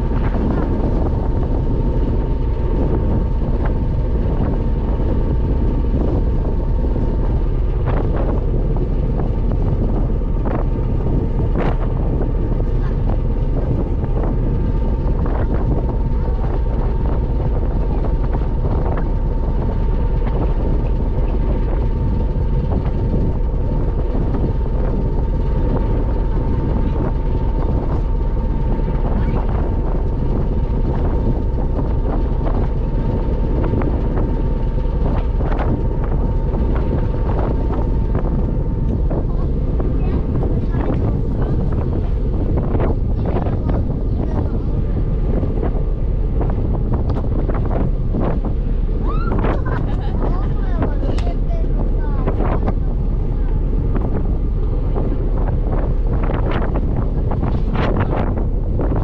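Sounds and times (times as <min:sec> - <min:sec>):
ferry engine drone: 0:00.0 - 0:59.0
thin steady hum: 0:00.0 - 0:59.0
wind buffeting microphone: 0:00.0 - 0:59.0.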